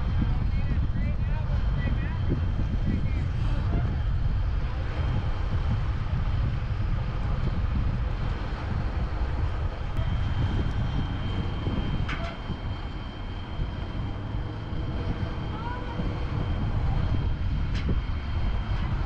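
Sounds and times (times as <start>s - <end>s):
loud low rumble: 0.0s - 19.0s.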